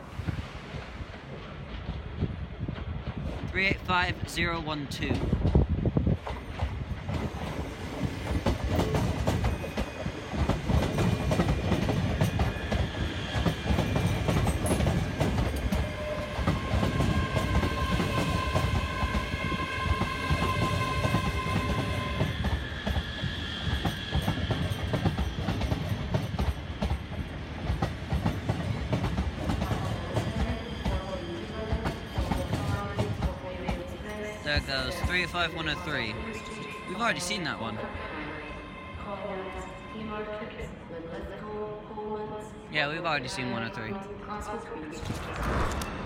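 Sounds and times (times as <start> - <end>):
train rumble: 0.0 - 41.8.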